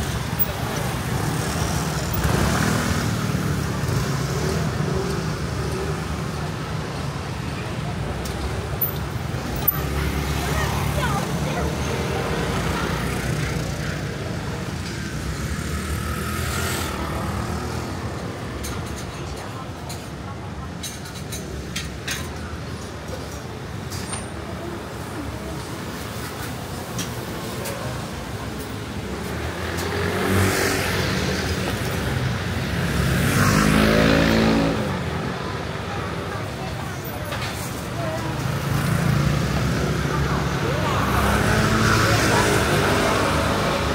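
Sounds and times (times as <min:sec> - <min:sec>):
vehicles passing close by: 0:00.0 - 0:43.9.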